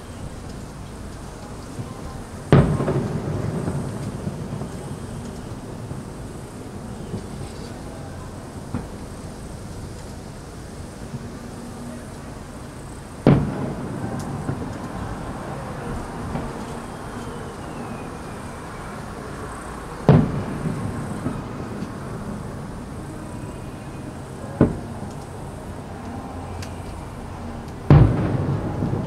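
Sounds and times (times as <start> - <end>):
fireworks booming: 0.0 - 29.0.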